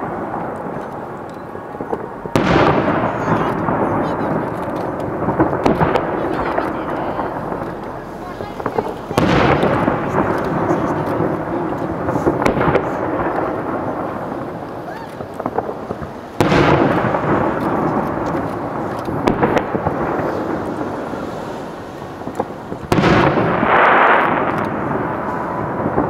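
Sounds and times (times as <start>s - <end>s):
firework booms with rolling rumble: 0.0s - 26.0s
firework crackling pops: 0.0s - 26.0s.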